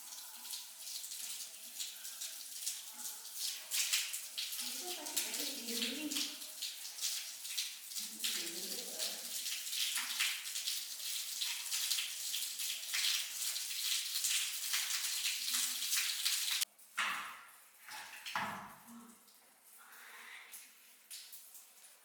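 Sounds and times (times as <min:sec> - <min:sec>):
short water splashes: 0:00.0 - 0:22.0
water running and splashing: 0:00.0 - 0:22.0.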